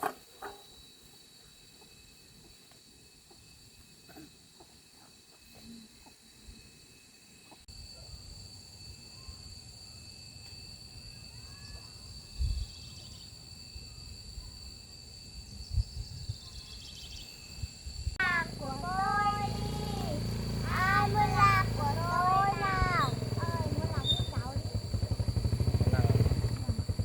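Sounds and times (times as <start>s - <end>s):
high-pitched insect calls: 0.0s - 27.0s
faint chirps: 0.4s - 8.3s, 9.0s - 27.0s.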